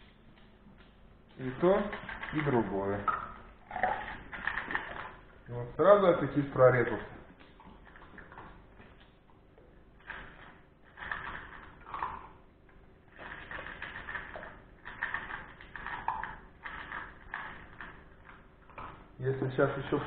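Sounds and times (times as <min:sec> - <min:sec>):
puppy crunching dry kibble: 0:00.0 - 0:05.4, 0:06.2 - 0:20.0.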